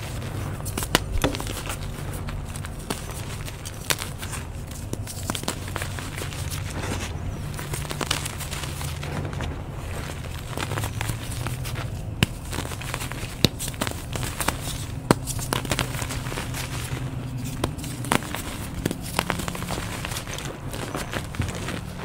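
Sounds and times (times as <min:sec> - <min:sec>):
chalk crunching and crackling: 0:00.0 - 0:22.0
low hum: 0:00.0 - 0:22.0.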